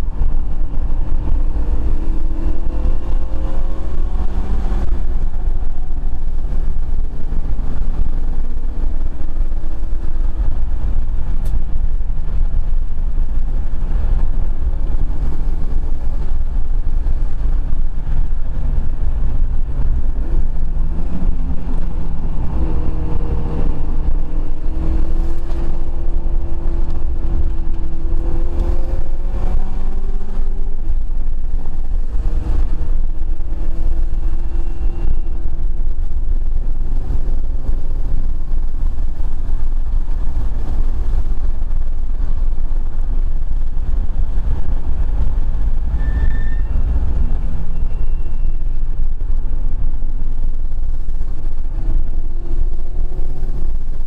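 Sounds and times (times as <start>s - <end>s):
car engine working hard: 0.0s - 54.0s
wind through open car window: 0.0s - 54.0s.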